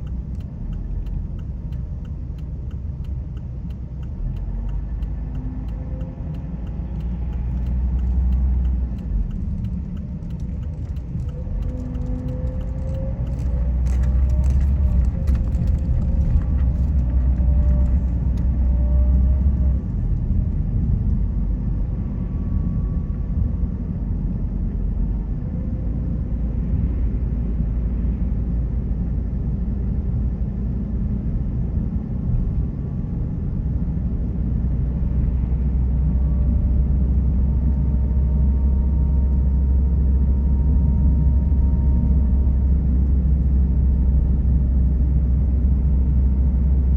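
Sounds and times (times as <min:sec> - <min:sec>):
car driving: 0:00.0 - 0:46.9
road rumble and tyre noise: 0:00.0 - 0:46.9.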